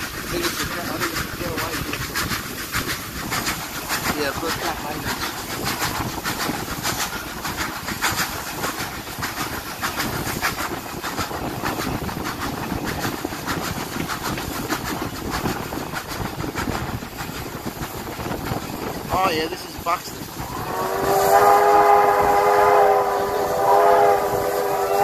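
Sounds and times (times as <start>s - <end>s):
train rumble and rattle: 0.0s - 25.0s.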